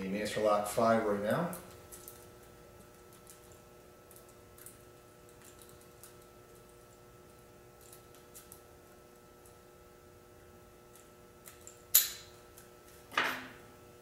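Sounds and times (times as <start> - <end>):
low steady room hum: 0.0 - 14.0.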